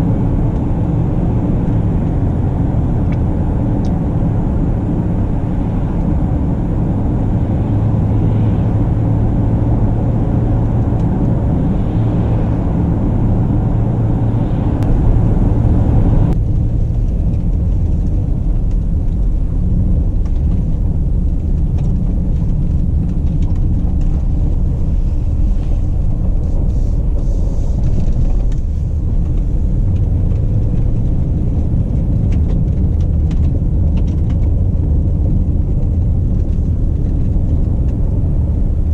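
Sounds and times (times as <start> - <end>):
road noise hiss: 0.0 - 32.7
engine and tyre rumble: 0.0 - 38.9.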